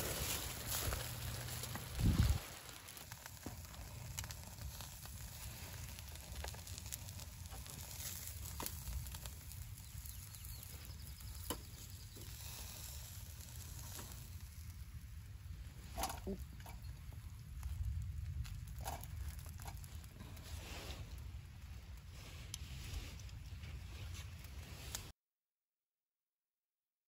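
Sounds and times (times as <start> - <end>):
meat sizzling on a grill: 0.0 - 22.4
small crackles: 0.0 - 25.2.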